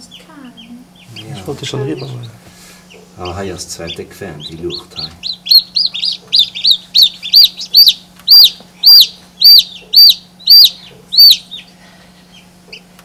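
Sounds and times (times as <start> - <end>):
chick peeping: 0.0 - 13.0.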